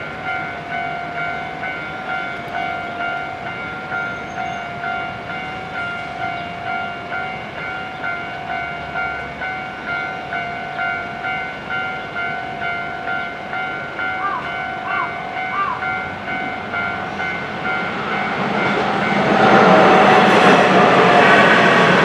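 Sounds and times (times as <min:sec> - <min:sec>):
level-crossing warning bell: 0:00.0 - 0:22.0.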